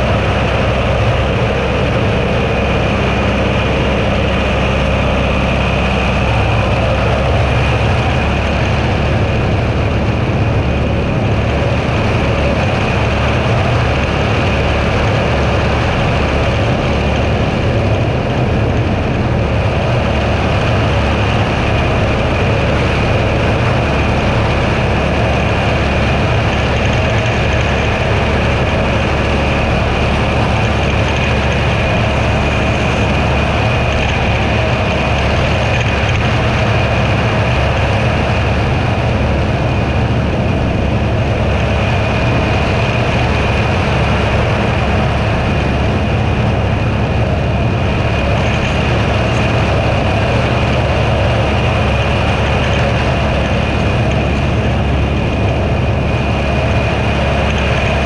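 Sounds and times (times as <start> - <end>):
high whine: 0.0 - 58.0
tractor engine droning: 0.0 - 58.0.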